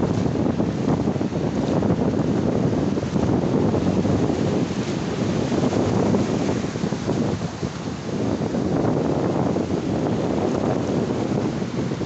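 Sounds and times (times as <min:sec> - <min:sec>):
small surf breaking on beach: 0:00.0 - 0:12.0
wind buffeting microphone: 0:00.0 - 0:12.0.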